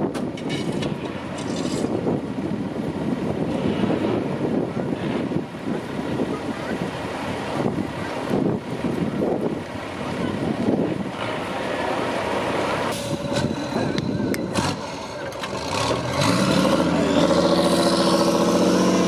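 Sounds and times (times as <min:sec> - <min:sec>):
truck engine revving: 0:00.4 - 0:19.0.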